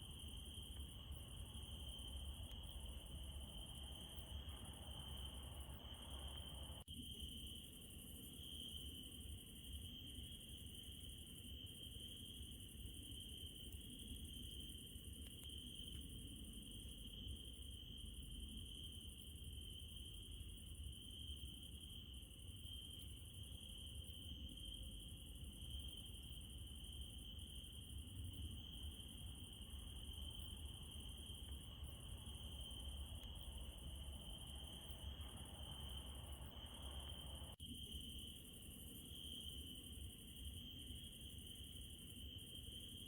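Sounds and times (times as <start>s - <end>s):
crickets trilling: 0.0s - 43.0s
high pulsing insect chorus: 0.0s - 43.0s.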